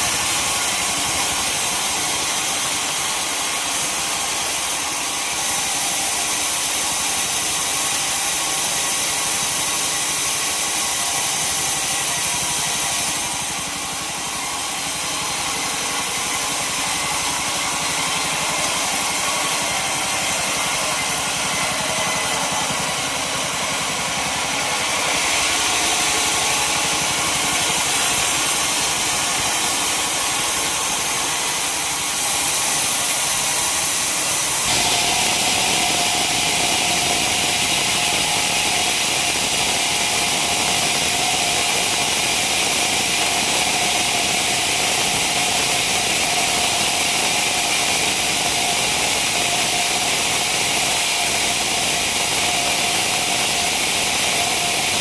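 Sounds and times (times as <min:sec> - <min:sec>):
sawmill engine and saw blade: 0:00.0 - 0:55.0.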